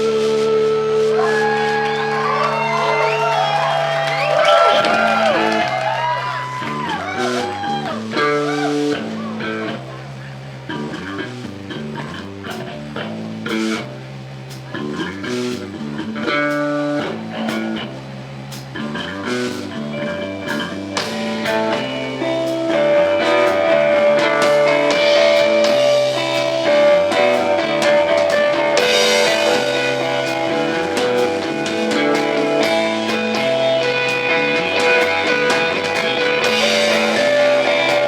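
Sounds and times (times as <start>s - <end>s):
live rock band playing: 0.0s - 10.1s, 10.8s - 13.9s, 14.5s - 38.0s
sustained guitar melody: 0.0s - 38.0s.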